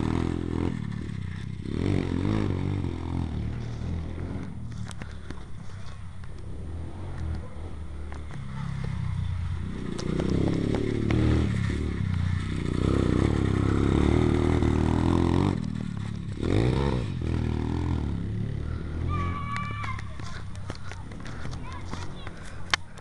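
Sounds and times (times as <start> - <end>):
pit bike engine revving: 0.0 - 23.0.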